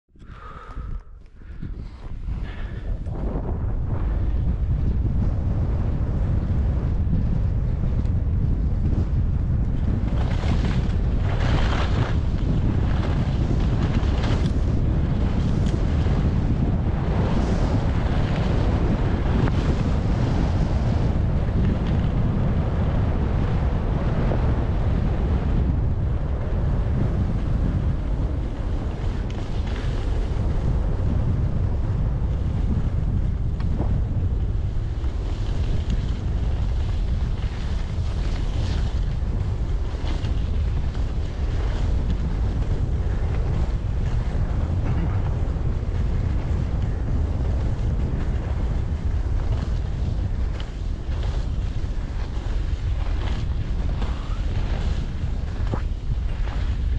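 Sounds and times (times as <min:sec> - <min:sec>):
wind buffeting microphone: 0:00.1 - 0:56.9
faint crunching in snow: 0:00.4 - 0:03.2, 0:09.7 - 0:23.4, 0:26.6 - 0:56.9.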